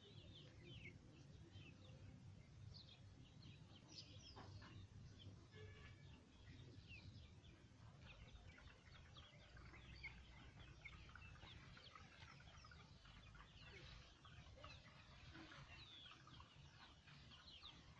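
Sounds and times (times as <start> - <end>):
chickens and chicks peeping: 0.1 - 5.5, 6.2 - 17.9.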